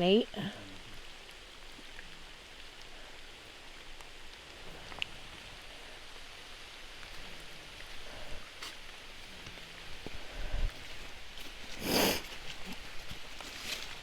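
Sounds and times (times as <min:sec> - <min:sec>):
falling water hissing: 0:00.0 - 0:14.0.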